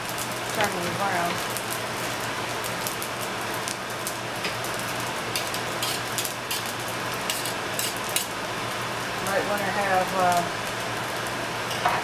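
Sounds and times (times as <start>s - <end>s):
rice sizzling in butter: 0.0s - 12.0s.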